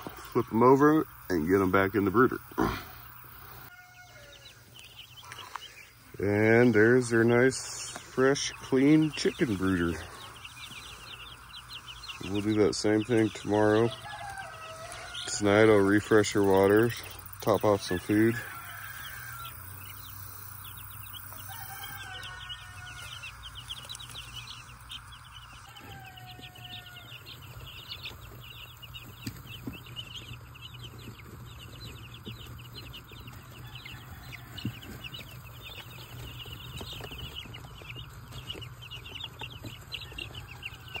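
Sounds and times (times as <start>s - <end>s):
chicks peeping: 0.0s - 41.0s.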